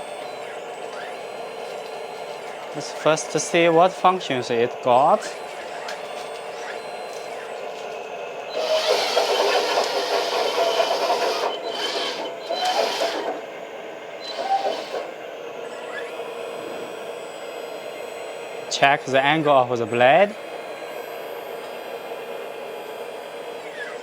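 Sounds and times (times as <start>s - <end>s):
hydraulic pumps humming and whining: 0.0s - 24.0s.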